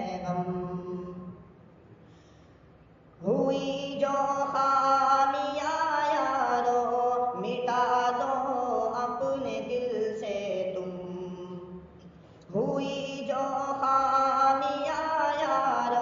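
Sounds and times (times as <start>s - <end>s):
man singing wordless notes: 0.0s - 1.4s, 3.2s - 11.8s, 12.5s - 16.0s.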